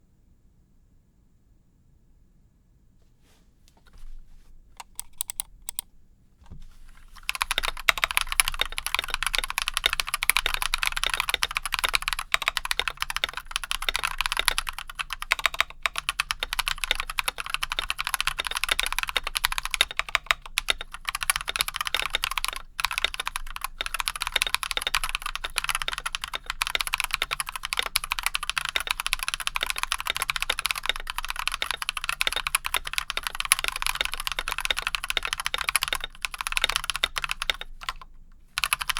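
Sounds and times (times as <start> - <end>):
fast mechanical keyboard typing: 4.8 - 5.9, 7.0 - 38.9.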